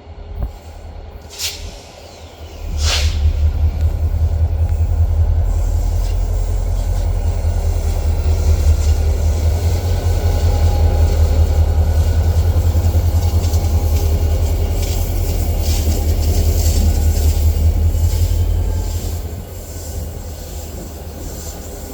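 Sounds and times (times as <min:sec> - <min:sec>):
train cars rumbling past: 0:00.0 - 0:21.9.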